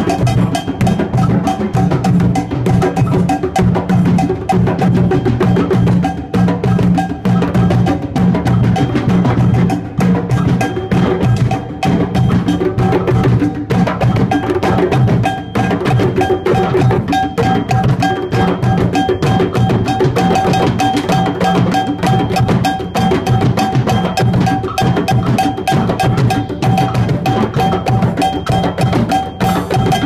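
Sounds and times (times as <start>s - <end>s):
loud music with fast drums: 0.0s - 30.0s.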